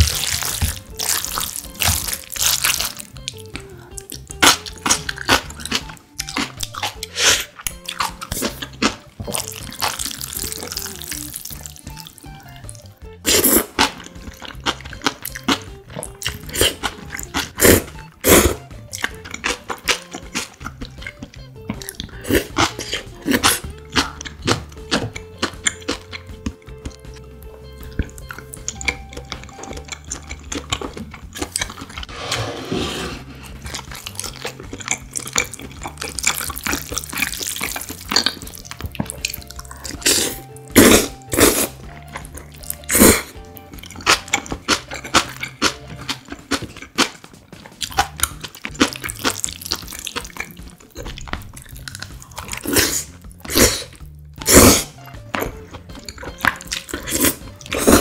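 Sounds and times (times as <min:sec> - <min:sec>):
soft background music: 0:00.0 - 0:58.0.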